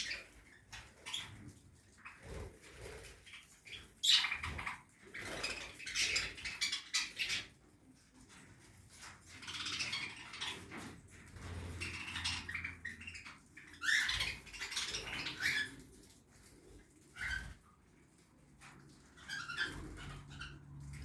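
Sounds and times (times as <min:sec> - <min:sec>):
budgerigars chattering and chirping: 0:00.0 - 0:07.6, 0:08.3 - 0:16.5, 0:17.1 - 0:17.6, 0:19.0 - 0:21.0.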